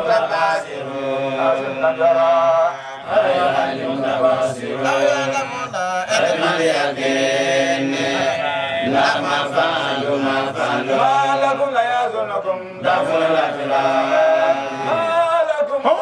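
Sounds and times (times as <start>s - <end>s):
voices chanting: 0.0s - 15.3s.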